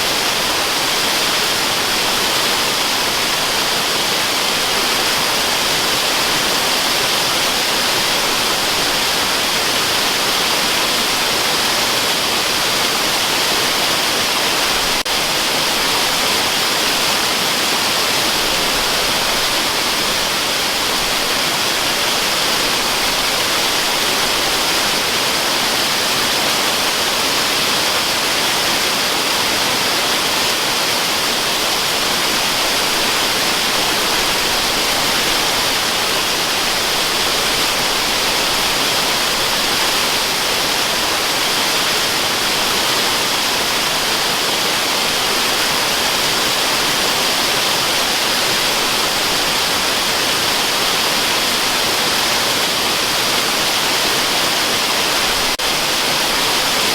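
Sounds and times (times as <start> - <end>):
waterfall rushing hiss: 0.0 - 56.9.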